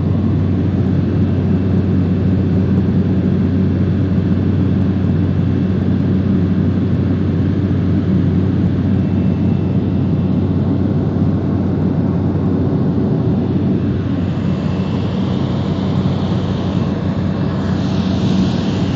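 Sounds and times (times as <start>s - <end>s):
propeller engine droning: 0.0s - 18.9s.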